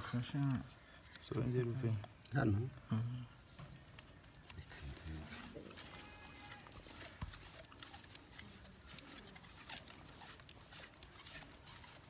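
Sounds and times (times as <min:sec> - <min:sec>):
faint clicks and scrapes: 0:00.0 - 0:02.4, 0:03.4 - 0:12.0.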